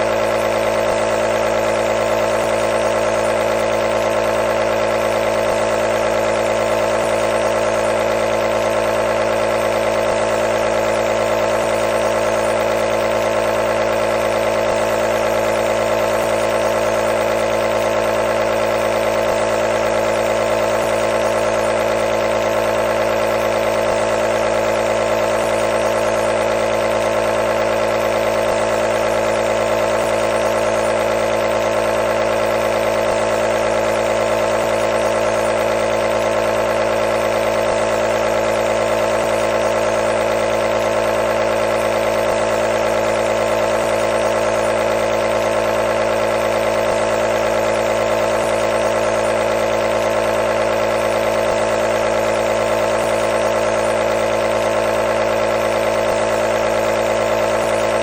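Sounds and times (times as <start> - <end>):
compressor buzzing hum: 0.0 - 58.0.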